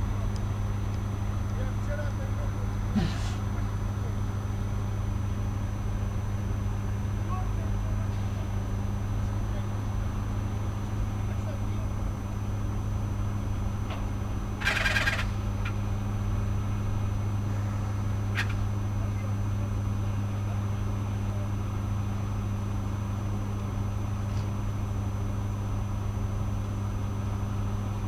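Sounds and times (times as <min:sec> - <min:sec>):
large engine droning: 0:00.0 - 0:28.0.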